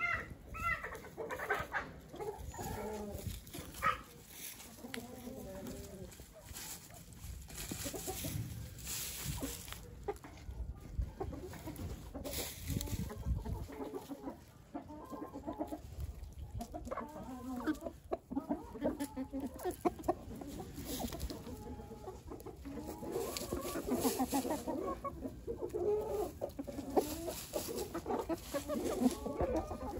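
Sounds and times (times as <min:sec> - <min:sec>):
hens clucking: 0:00.0 - 0:29.9.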